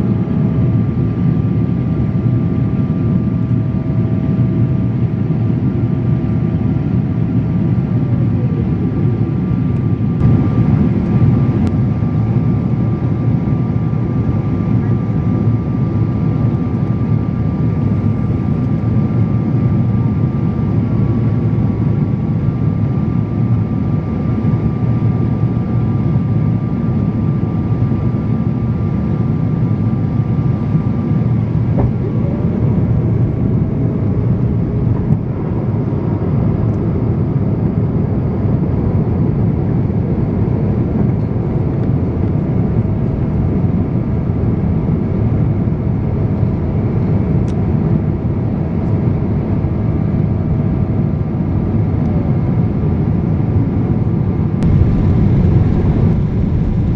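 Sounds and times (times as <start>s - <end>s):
aircraft cabin roar: 0.0s - 56.9s
faint engine whine: 0.0s - 56.9s.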